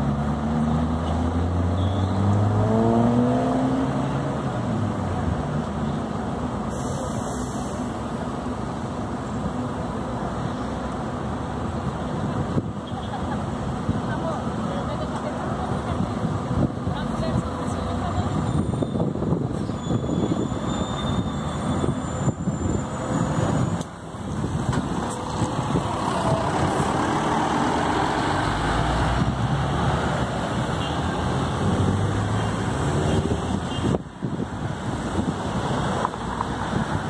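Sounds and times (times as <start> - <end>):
road noise: 0.0 - 37.0.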